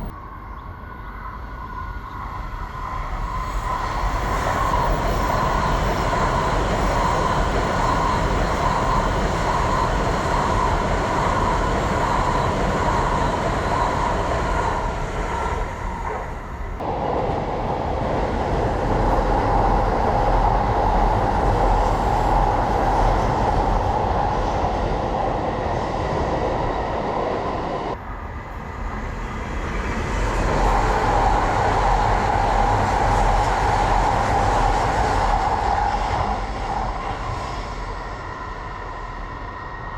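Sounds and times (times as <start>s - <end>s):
train rumble with high whine: 0.0s - 39.9s.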